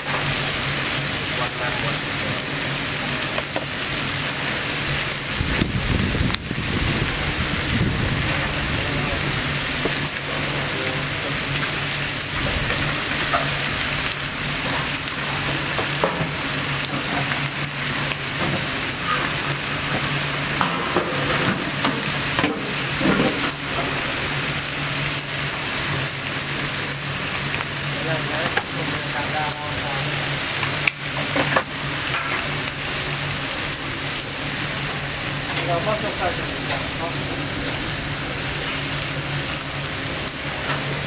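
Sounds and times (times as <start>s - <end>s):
food sizzling: 0.0s - 41.0s.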